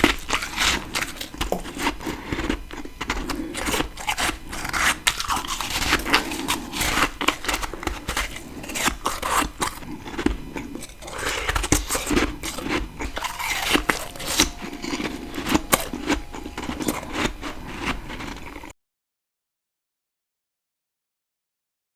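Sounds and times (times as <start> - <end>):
person chewing frost crunching: 0.0 - 18.7.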